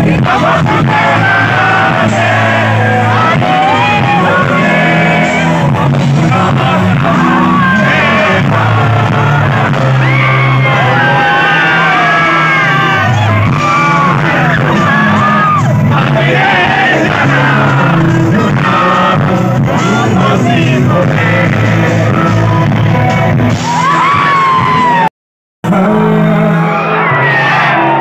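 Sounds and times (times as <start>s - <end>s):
man singing into a microphone: 0.0s - 22.9s, 25.6s - 28.0s
live band playing: 0.0s - 25.1s
heavy bass notes: 0.0s - 28.0s.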